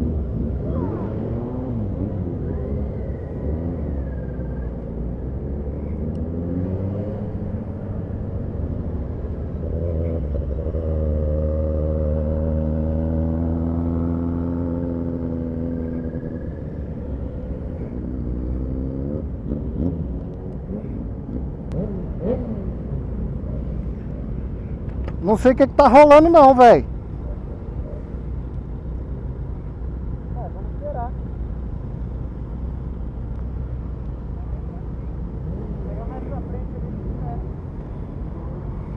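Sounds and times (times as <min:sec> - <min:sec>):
motorcycle engine: 0:00.0 - 0:38.9
road rumble: 0:00.0 - 0:38.9
wind: 0:00.0 - 0:38.9.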